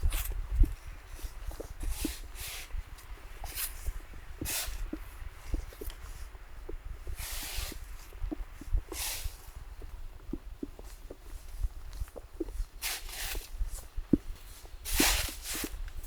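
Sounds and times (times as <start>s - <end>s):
footsteps crunching through snow: 0.0s - 16.0s.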